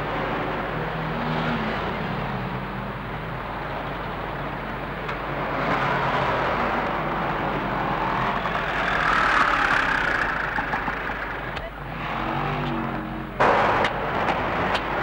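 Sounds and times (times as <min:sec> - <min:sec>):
passing cars: 0:00.0 - 0:15.0.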